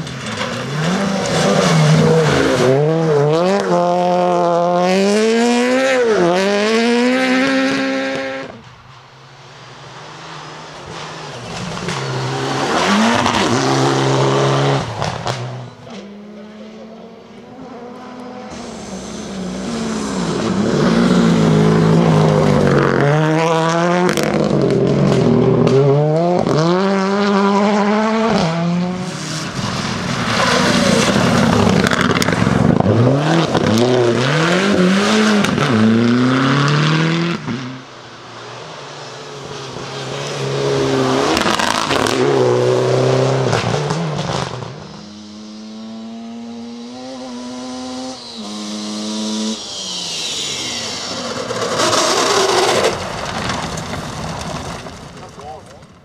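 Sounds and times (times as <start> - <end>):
rally cars revving and passing: 0.0 - 56.0.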